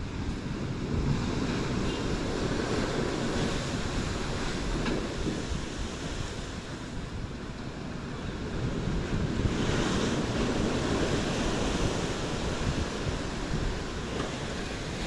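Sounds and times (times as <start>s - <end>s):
surf waves crashing: 0.0s - 15.0s
wind buffeting the microphone: 0.0s - 15.0s.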